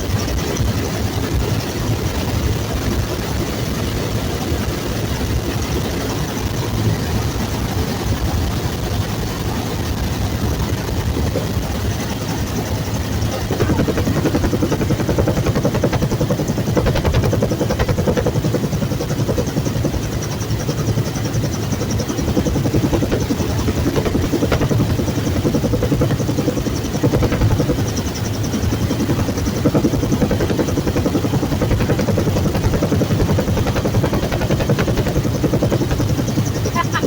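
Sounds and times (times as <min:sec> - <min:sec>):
helicopter running: 0:00.0 - 0:37.0.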